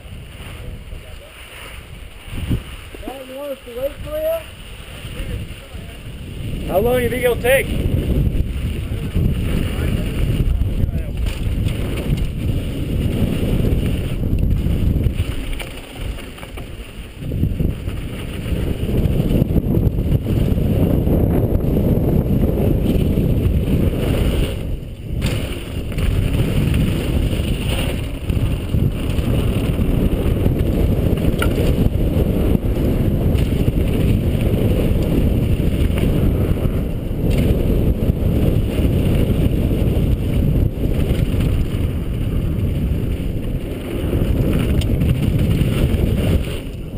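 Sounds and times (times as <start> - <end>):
tyres on stony dirt trail: 0.0 - 46.9
wind rumble on microphone: 0.0 - 46.9.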